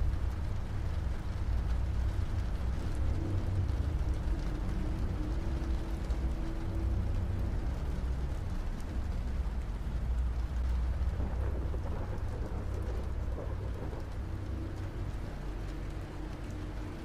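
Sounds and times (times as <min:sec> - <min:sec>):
rolling thunder rumble: 0:00.0 - 0:17.0
steady rain: 0:00.0 - 0:17.0.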